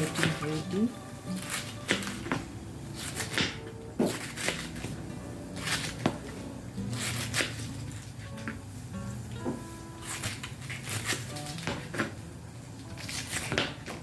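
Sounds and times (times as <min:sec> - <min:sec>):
knife chopping cabbage on board: 0:00.0 - 0:08.6, 0:09.4 - 0:12.2, 0:13.0 - 0:14.0
soft background music: 0:00.0 - 0:14.0.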